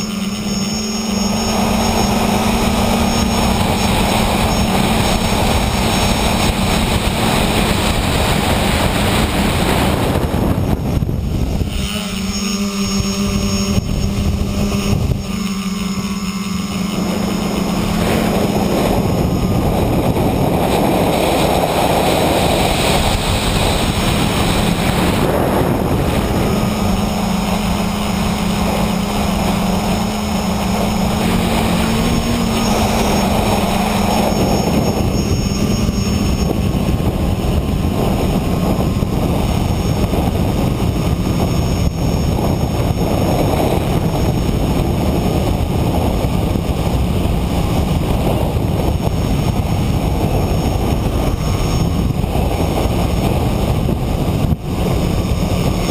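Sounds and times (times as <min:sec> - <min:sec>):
drone propellers rushing: 0:00.0 - 0:55.9
electric motor hum: 0:00.0 - 0:55.9.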